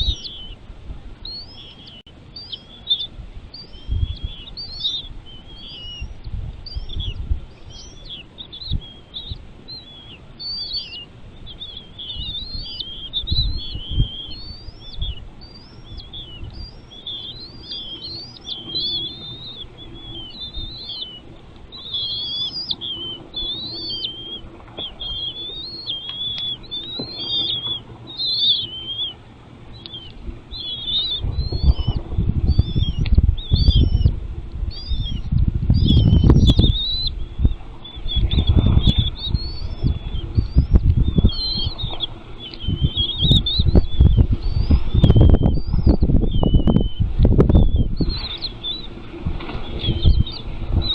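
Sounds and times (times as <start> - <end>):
nestling birds chirping: 0.0 - 50.9.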